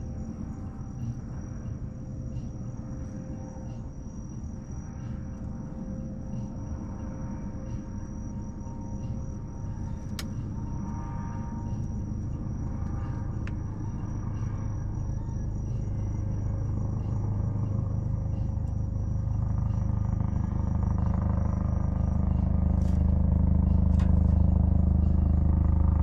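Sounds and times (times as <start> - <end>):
insects trilling: 0.0 - 26.0
steady low rumble: 0.0 - 26.0.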